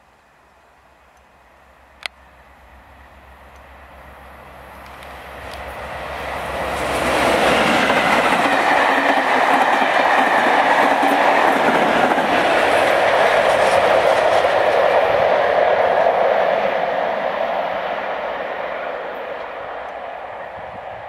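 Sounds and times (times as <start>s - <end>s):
diesel locomotive engine drone: 0.0s - 21.0s
train wheels rumbling on rails: 2.0s - 21.0s.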